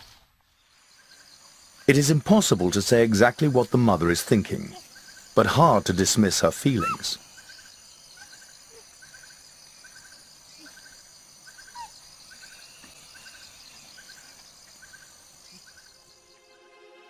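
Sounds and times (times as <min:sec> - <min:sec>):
high insect drone: 0:00.6 - 0:16.5.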